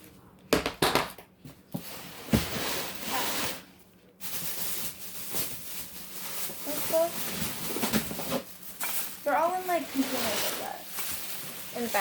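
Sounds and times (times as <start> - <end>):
plastic packaging rustling: 1.8 - 12.0.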